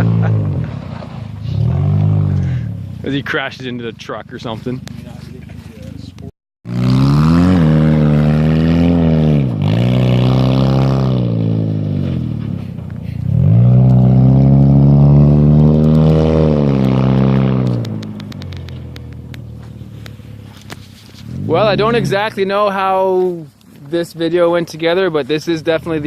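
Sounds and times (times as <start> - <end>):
vehicle engine revving: 0.0 - 5.9, 6.6 - 22.6.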